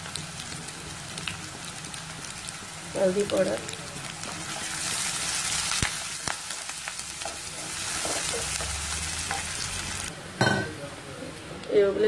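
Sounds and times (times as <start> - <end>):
food sizzling in hot oil: 0.0 - 10.6.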